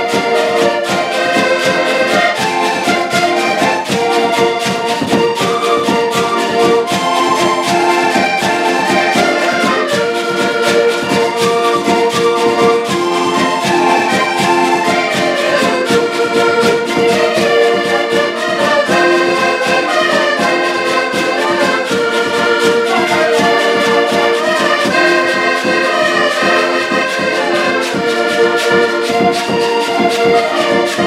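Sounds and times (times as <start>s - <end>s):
button accordions playing folk tune: 0.0s - 31.0s.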